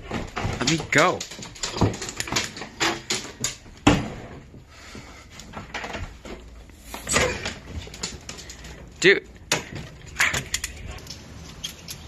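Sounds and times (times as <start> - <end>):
clatter and rustle of movement: 0.0 - 12.0.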